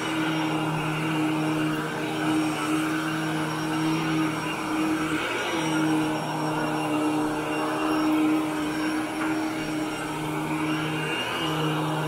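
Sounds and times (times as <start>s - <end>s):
vacuum cleaner on carpet: 0.0s - 12.0s.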